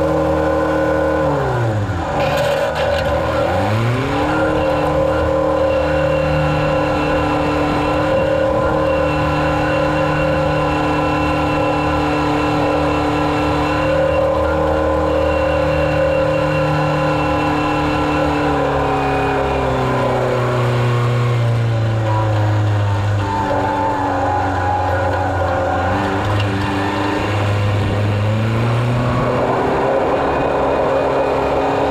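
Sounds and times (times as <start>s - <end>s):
engine running and slowing: 0.0s - 31.9s.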